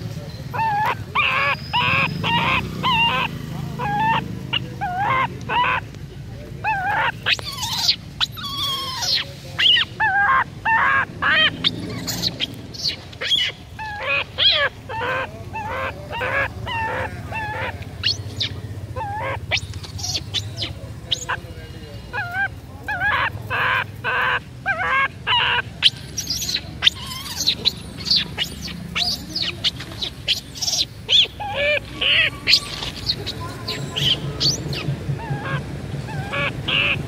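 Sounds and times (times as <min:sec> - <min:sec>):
harsh animal calls: 0:00.0 - 0:05.9, 0:06.6 - 0:37.0.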